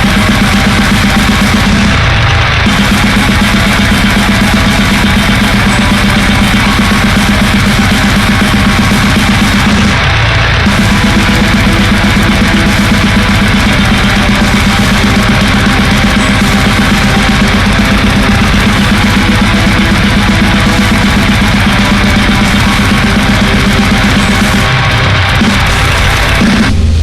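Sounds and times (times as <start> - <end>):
distorted electric guitar: 0.0 - 27.0
heavy metal music: 0.0 - 27.0.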